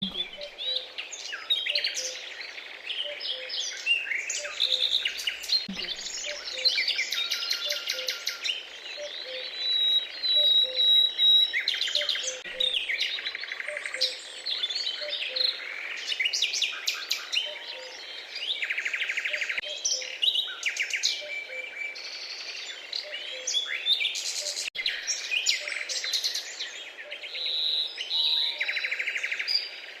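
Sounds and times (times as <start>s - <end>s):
birds chirping and trilling: 0.0s - 30.0s.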